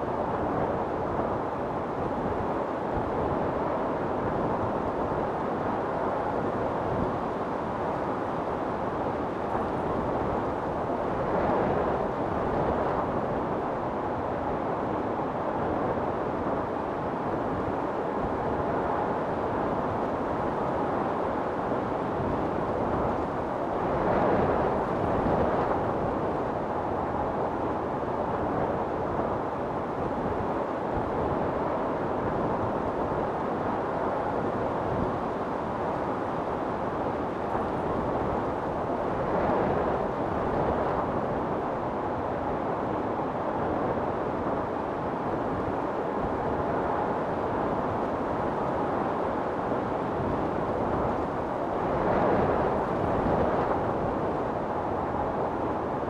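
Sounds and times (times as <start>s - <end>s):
storm wind blowing: 0.0s - 56.0s.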